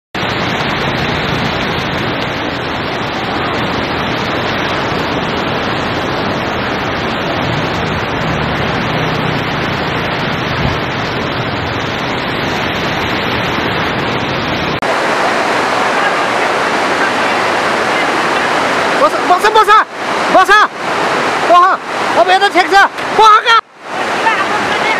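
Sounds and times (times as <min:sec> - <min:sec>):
river rushing in flood: 0:00.2 - 0:24.9.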